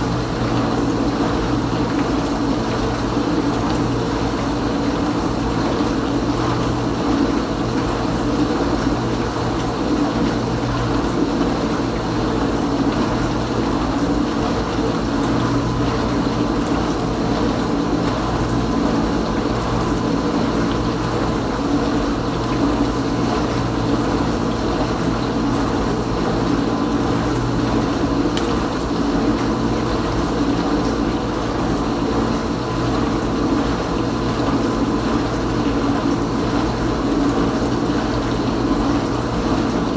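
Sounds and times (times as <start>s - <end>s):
dishwasher pump hum: 0.0s - 39.9s.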